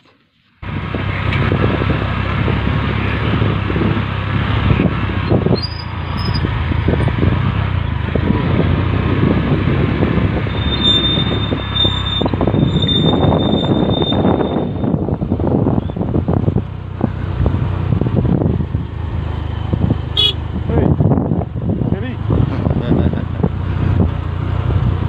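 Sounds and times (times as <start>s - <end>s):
wind buffeting microphone: 0.6s - 25.0s.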